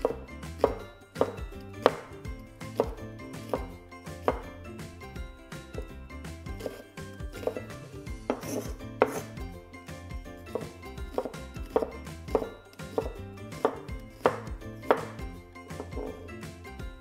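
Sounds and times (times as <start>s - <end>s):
knife chopping on cutting board: 0.0s - 4.9s, 5.6s - 9.6s, 10.4s - 16.4s.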